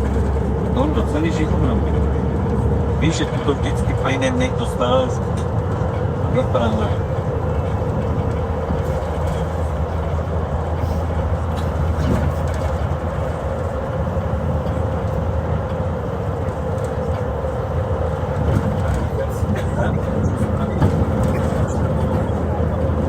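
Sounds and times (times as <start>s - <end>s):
bus engine hum: 0.0s - 23.0s
road noise: 0.0s - 23.0s.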